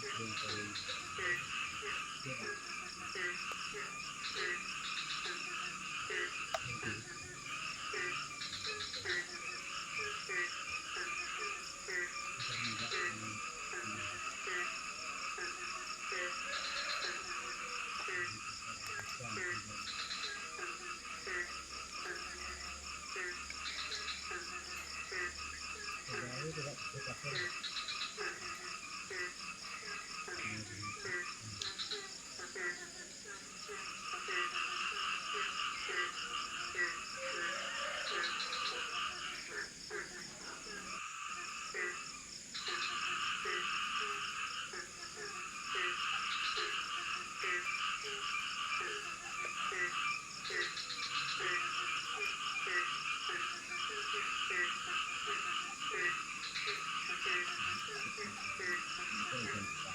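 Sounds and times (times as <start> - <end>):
pulsing frog chorus: 0.0 - 59.9.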